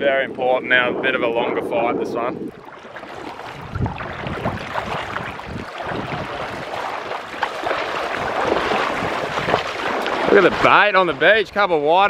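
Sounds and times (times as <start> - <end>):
wind on microphone: 0.0 - 12.0
surf splashing at water's edge: 0.2 - 12.0.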